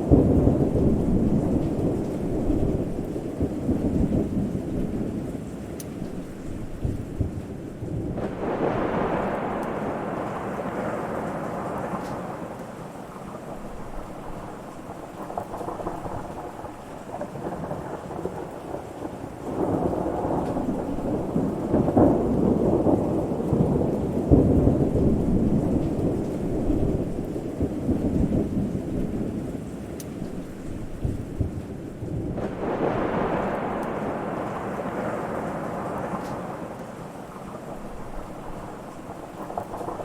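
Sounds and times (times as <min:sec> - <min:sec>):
rain falling steadily: 0:00.0 - 0:40.0
thunder rumbling: 0:00.0 - 0:40.0.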